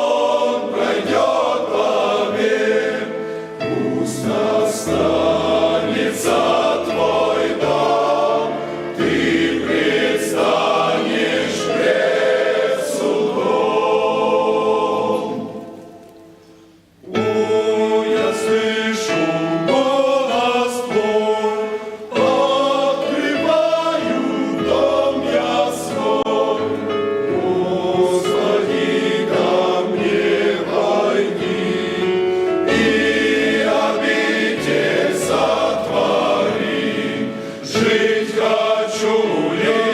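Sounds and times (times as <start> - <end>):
choir singing worship song: 0.0 - 39.9.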